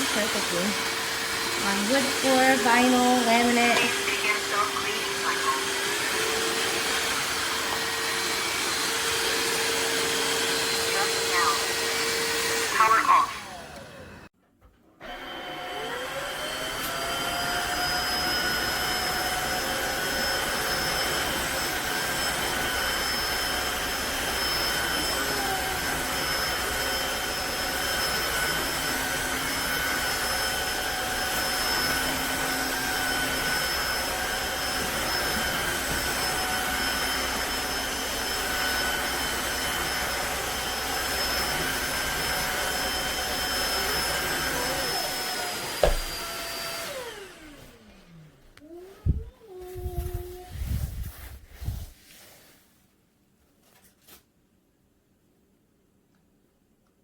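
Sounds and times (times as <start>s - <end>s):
vacuum motor whine: 0.0s - 14.3s, 15.0s - 50.0s.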